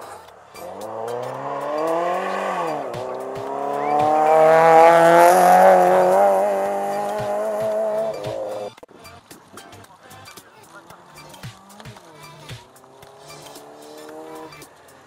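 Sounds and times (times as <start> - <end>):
rally car engine revving: 0.0 - 8.8, 10.7 - 15.0.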